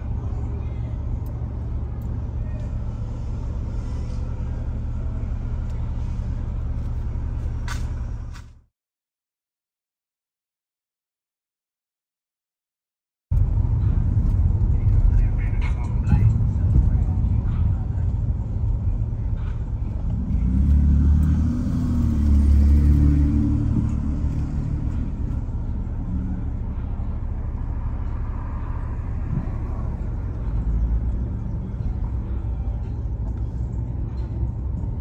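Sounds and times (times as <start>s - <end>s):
car engine and road rumble: 0.0s - 8.7s, 13.3s - 35.0s.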